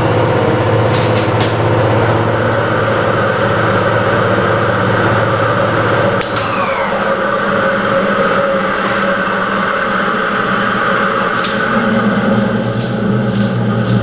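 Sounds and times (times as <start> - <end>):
elevator hoist machine humming: 0.0 - 14.0
falling whine: 0.0 - 14.0.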